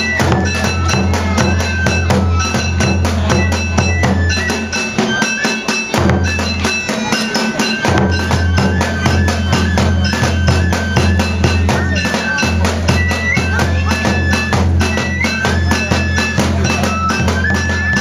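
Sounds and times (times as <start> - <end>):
high flute: 0.0 - 18.0
metallic clanking percussion: 0.0 - 18.0
taiko drum beating: 0.0 - 18.0.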